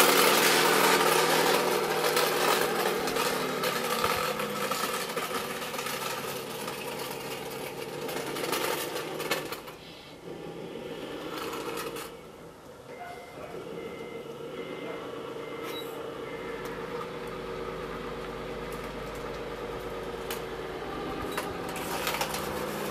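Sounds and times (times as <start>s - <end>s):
model truck motor: 0.0s - 12.4s, 13.6s - 22.9s.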